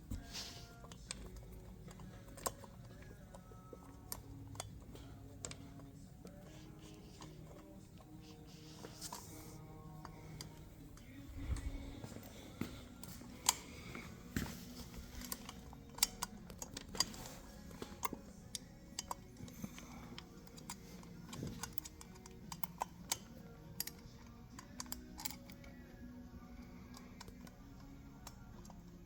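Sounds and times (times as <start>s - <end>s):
faint background music: 0.0s - 29.0s
small metallic clicks and taps: 0.1s - 11.6s, 12.6s - 25.9s.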